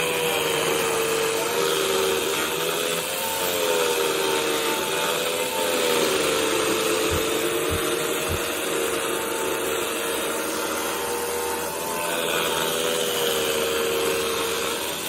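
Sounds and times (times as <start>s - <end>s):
milling machine grinding concrete: 0.0s - 15.0s.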